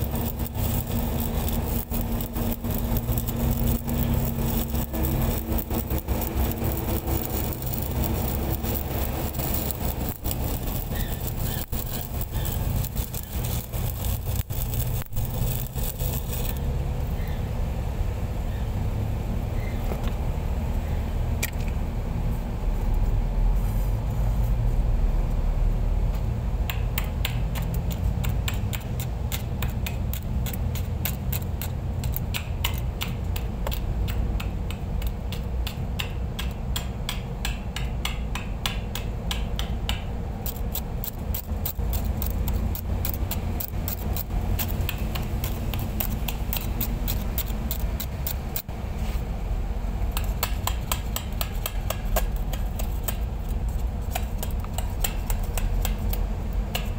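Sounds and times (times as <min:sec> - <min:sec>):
welding arc crackling and popping: 0:00.0 - 0:17.4, 0:26.1 - 0:56.9.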